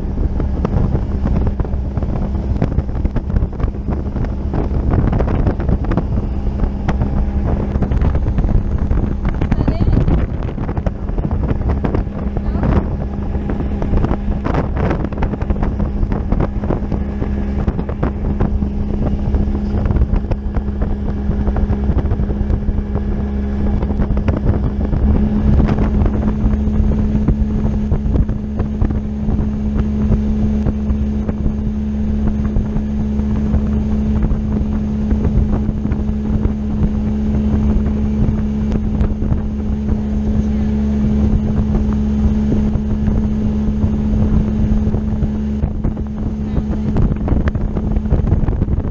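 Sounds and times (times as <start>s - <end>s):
outboard motor running: 0.0s - 48.9s
wind buffeting microphone: 0.0s - 48.9s.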